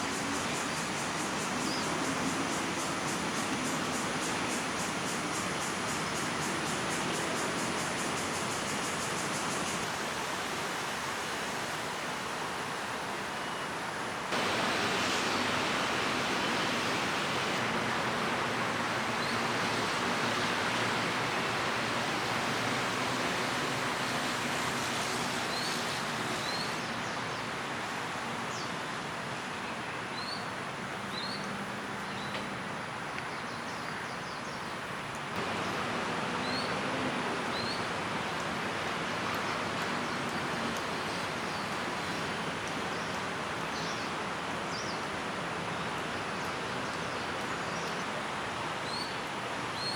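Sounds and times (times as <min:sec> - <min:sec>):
park background hiss: 0:00.0 - 0:49.9.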